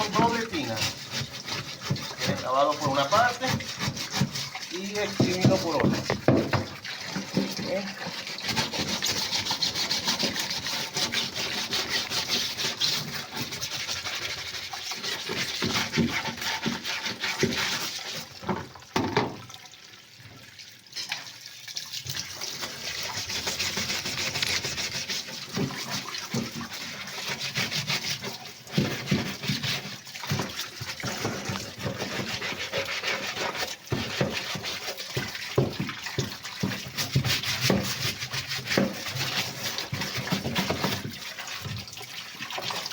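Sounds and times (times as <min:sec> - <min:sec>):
stiff brush scrubbing with water: 0:00.0 - 0:19.4, 0:21.0 - 0:42.9.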